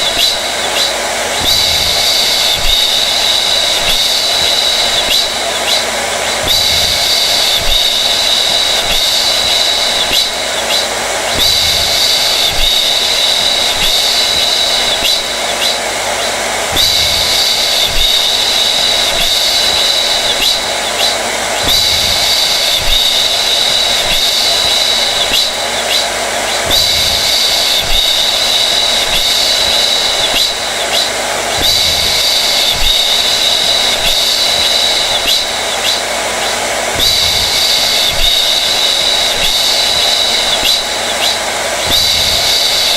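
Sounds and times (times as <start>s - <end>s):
hair dryer running: 0.0s - 42.9s.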